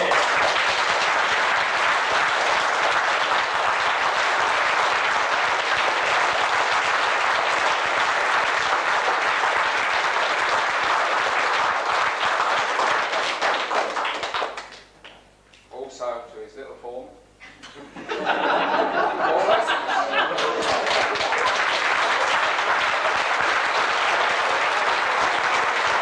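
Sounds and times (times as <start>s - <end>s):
audience applauding: 0.0s - 15.2s, 18.1s - 26.0s.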